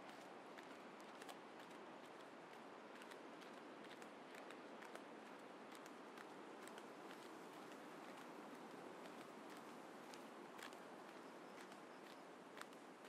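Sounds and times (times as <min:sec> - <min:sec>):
footsteps on paved path: 0:00.0 - 0:13.0
soft outdoor background hiss: 0:00.0 - 0:13.0.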